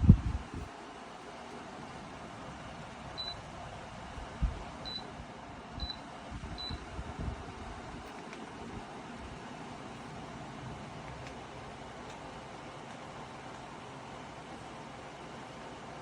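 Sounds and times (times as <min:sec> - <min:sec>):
fan air rushing: 0:00.0 - 0:16.0.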